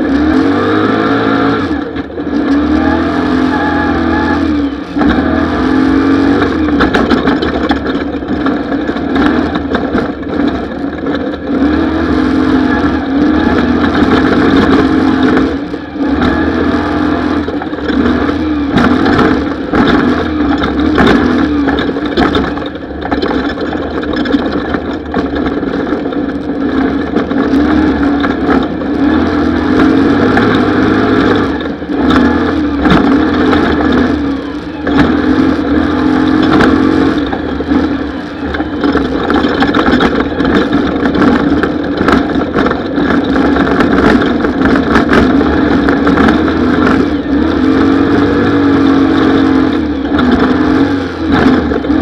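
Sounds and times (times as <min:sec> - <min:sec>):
engine revving hard: 0:00.0 - 0:07.6, 0:11.3 - 0:22.5, 0:26.6 - 0:52.0.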